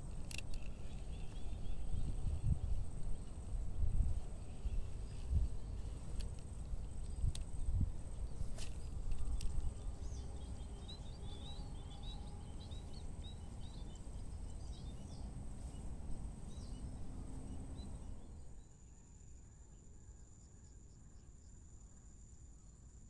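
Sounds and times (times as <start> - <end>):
small birds chirping: 0.0 - 18.8
high insect drone: 0.0 - 23.0.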